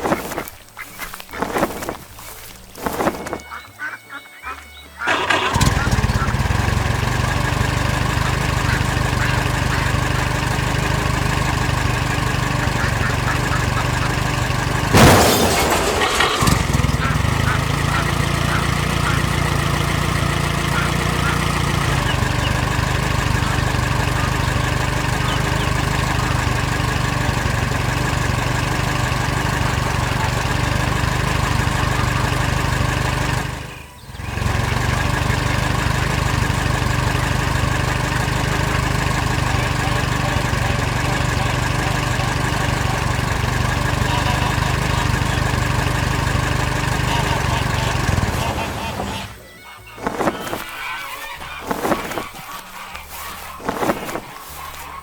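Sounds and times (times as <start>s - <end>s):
harvester engine droning: 0.0s - 55.0s.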